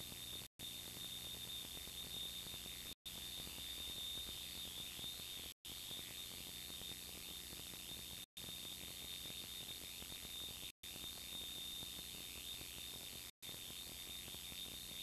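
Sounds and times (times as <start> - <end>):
tape hiss and hum: 0.0 - 15.0
thin high whine: 0.0 - 15.0.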